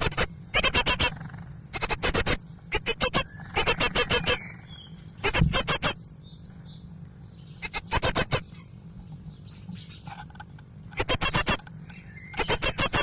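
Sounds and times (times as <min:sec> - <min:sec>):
low electrical hum: 0:00.0 - 0:13.0
nestlings begging calls: 0:00.0 - 0:13.0.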